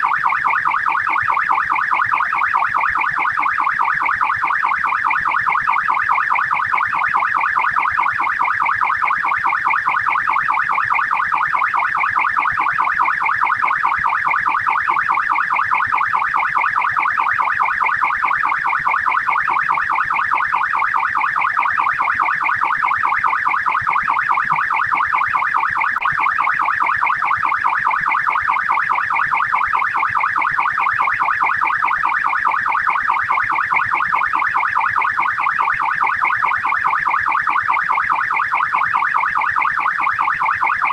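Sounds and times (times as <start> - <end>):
police siren yelp: 0.0 - 40.9.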